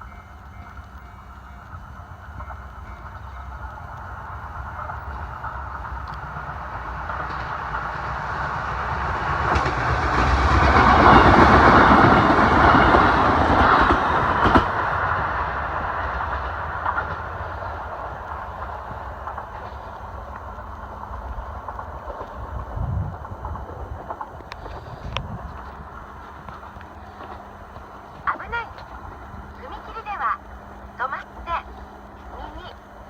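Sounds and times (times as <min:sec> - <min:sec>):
train wheels rattling on rails: 0:00.0 - 0:33.0.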